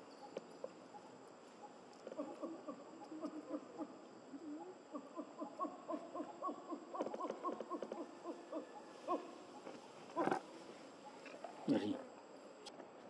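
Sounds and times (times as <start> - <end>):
low hooting animal calls: 0.0 - 12.0.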